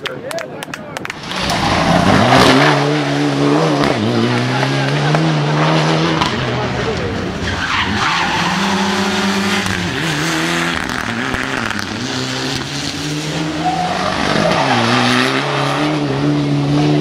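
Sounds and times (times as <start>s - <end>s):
car engine revving: 1.1s - 17.0s.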